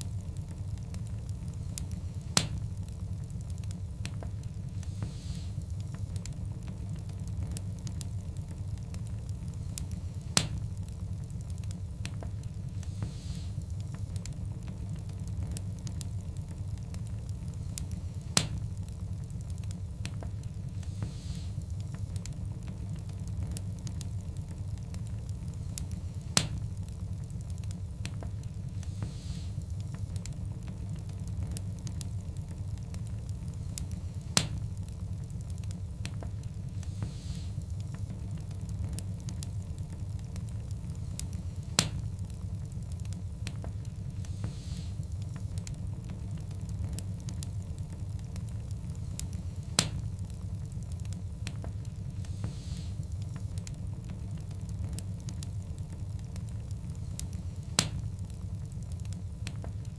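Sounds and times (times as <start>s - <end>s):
log fire crackling: 0.0s - 59.9s
loud fire pops: 0.0s - 59.9s
low fire rumble: 0.0s - 59.9s.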